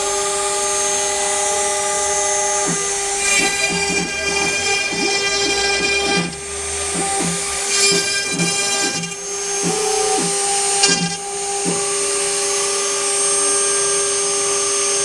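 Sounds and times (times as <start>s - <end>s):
cnc router whine: 0.0s - 15.0s.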